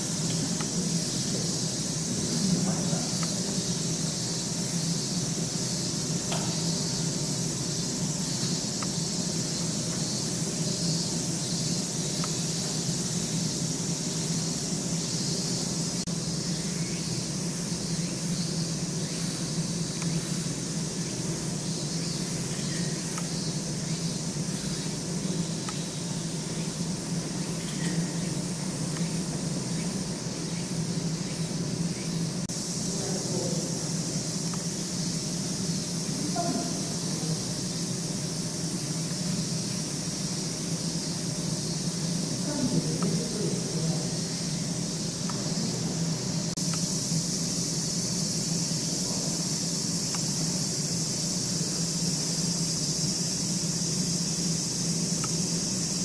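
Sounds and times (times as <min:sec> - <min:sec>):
even hiss: 0:00.0 - 0:56.0
steady low hum: 0:00.0 - 0:56.0.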